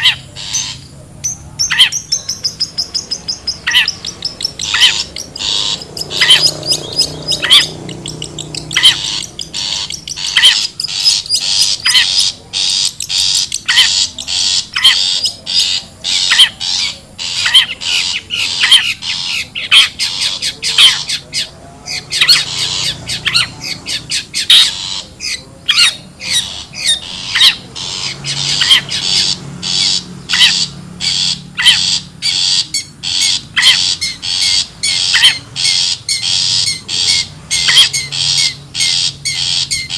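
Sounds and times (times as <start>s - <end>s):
shrike calling sharp notes: 0.0s - 39.9s.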